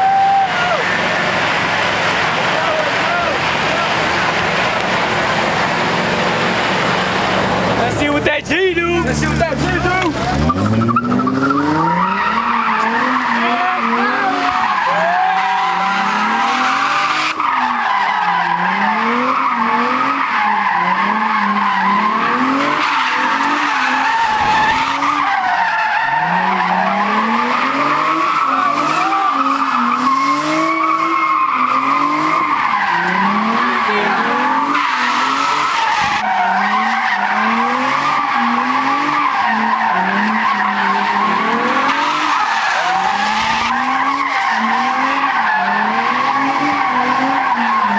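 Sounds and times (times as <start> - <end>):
car engine revving: 0.0 - 47.9
tires screeching: 0.0 - 47.9.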